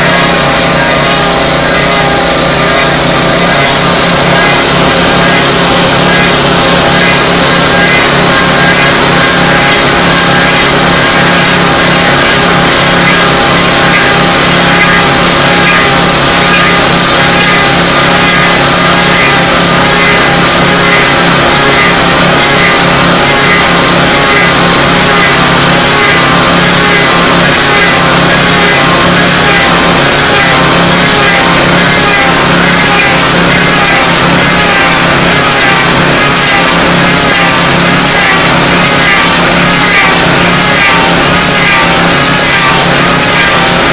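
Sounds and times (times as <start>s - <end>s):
log lathe droning: 0.0s - 43.9s
wavering high whine: 0.0s - 43.9s.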